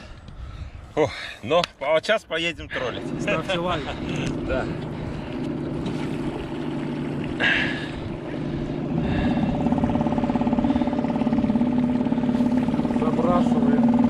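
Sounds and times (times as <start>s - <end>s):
outboard motor running: 2.6s - 14.0s.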